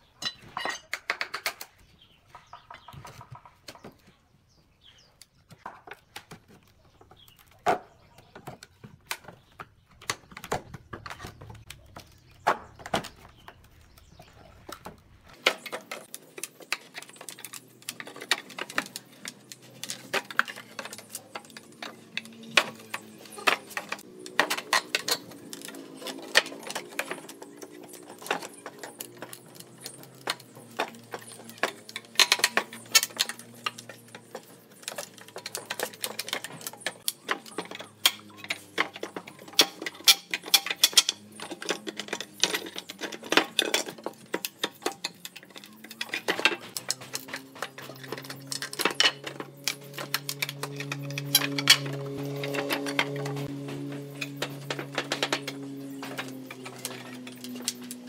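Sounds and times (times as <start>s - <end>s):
wood cracking and creaking: 0.0s - 4.2s, 5.0s - 58.0s.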